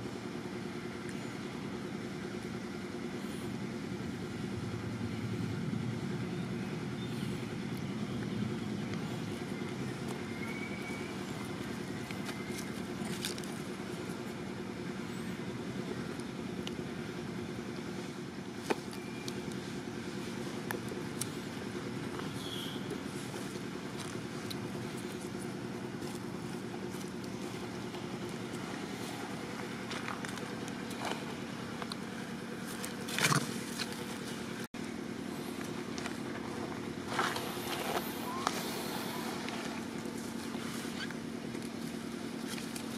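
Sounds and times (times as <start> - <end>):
engine humming: 0.0 - 42.9.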